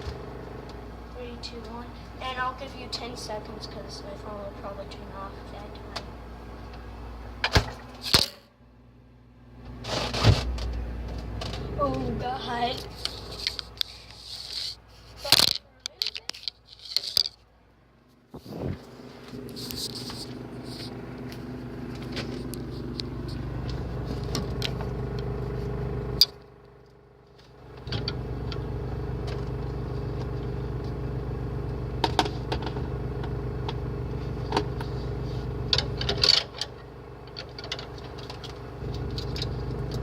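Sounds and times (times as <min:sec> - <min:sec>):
refrigerator motor hum: 0:00.0 - 0:40.0.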